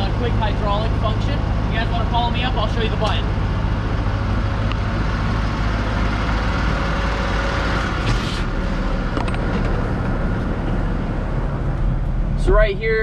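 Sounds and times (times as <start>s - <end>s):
forklift engine idling: 0.0s - 12.4s.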